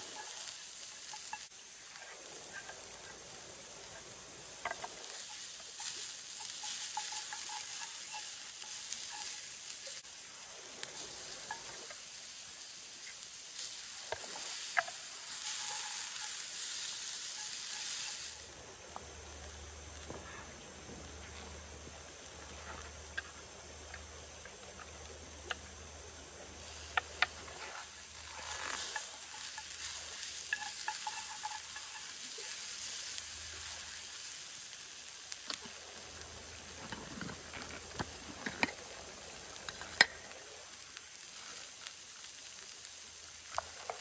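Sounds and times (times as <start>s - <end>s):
onion sizzling in a frying pan: 0.0s - 44.0s.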